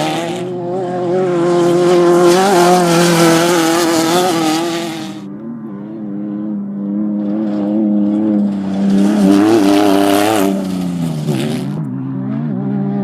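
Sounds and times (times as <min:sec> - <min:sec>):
off-road engine at high revs: 0:00.0 - 0:13.0
rush of passing vehicle: 0:00.0 - 0:13.0.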